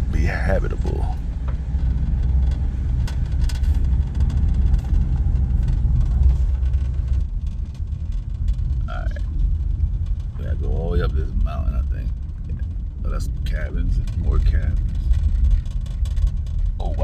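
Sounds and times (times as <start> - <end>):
car cabin road rumble: 0.0 - 17.0
light knocks and rattles: 0.0 - 17.0.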